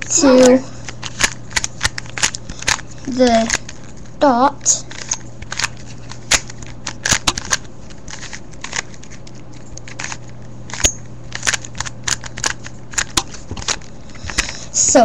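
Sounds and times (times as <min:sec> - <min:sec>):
steady low hum: 0:00.0 - 0:15.0
puzzle cube plastic clicking: 0:00.4 - 0:03.8, 0:04.8 - 0:14.6.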